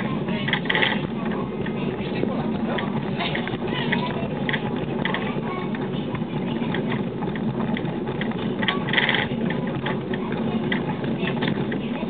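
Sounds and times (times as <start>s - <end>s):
cable car rumbling on track: 0.0s - 12.0s.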